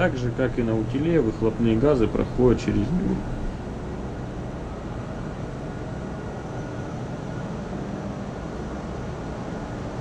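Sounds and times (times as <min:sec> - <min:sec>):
engine room machinery drone: 0:00.0 - 0:10.0.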